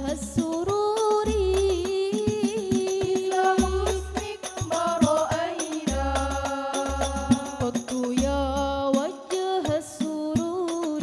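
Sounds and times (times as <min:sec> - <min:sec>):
women singing: 0:00.0 - 0:11.0
hand-struck frame drums: 0:00.3 - 0:11.0.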